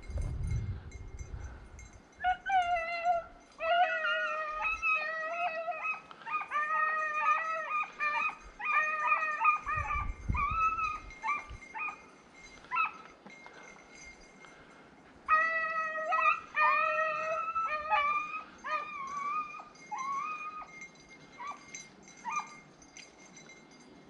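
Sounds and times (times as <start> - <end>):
hounds baying: 2.2 - 23.1.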